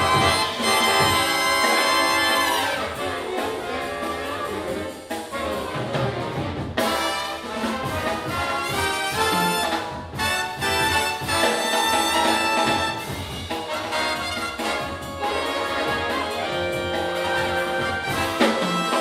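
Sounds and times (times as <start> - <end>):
brass section playing chords: 0.0 - 19.0.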